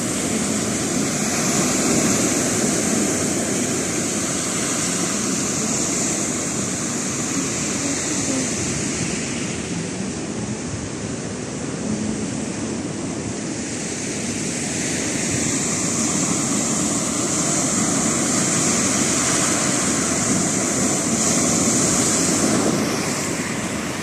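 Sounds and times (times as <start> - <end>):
ocean surf washing ashore: 0.0 - 24.0.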